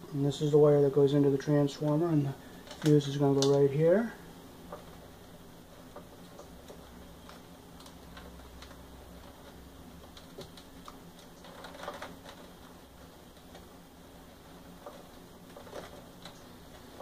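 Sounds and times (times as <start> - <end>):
wires clicking and rustling: 0.2 - 17.0.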